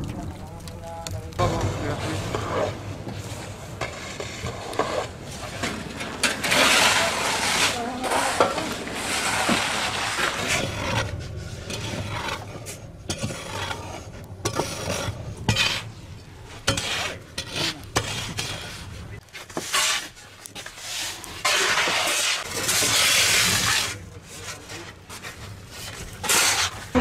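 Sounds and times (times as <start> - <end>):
shovels scraping through ash: 0.0 - 27.0.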